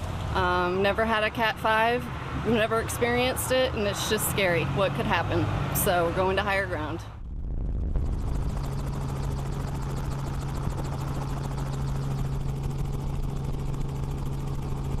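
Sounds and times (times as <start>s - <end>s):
helicopter engine hum: 0.0s - 15.0s
helicopter rotor beat: 0.0s - 15.0s.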